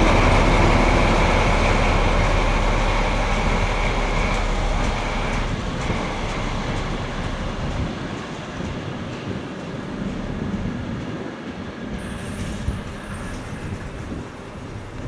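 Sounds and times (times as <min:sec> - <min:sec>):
diesel locomotive engine: 0:00.0 - 0:15.0
wheels on rails: 0:00.0 - 0:15.0.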